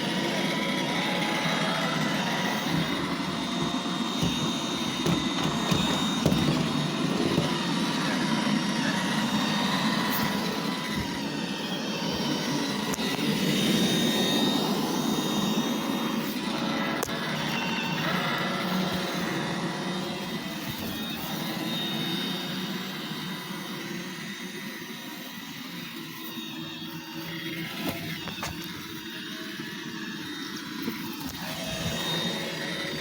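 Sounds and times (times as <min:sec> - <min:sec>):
robot vacuum whirring: 0:00.0 - 0:33.0.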